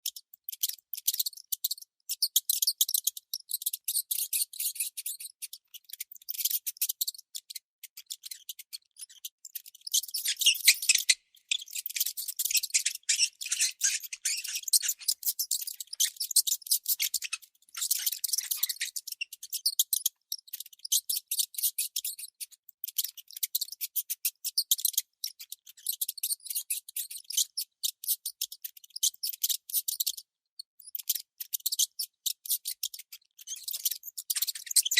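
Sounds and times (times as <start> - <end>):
baby mice squeaking: 0.1 - 34.9.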